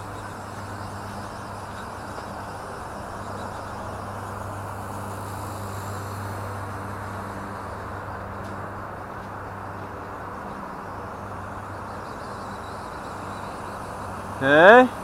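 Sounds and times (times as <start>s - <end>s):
rc helicopter rotor drone: 0.0s - 15.0s.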